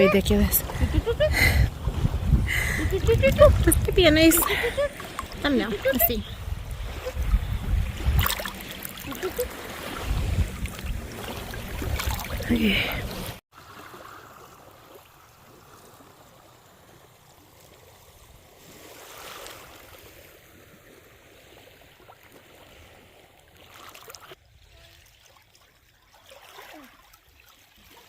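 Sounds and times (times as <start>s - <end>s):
sea water lapping at shore: 0.0s - 28.0s.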